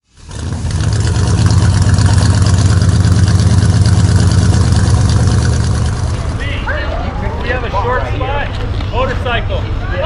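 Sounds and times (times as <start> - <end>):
car engine idling: 0.1 - 10.0.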